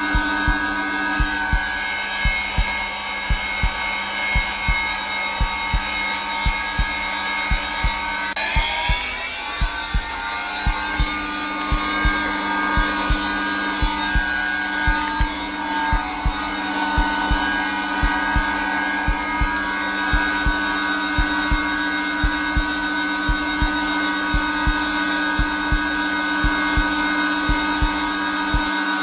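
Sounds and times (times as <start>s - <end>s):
heartbeat thumps: 0.0s - 28.8s
vacuum cleaner motor whine: 0.0s - 29.0s.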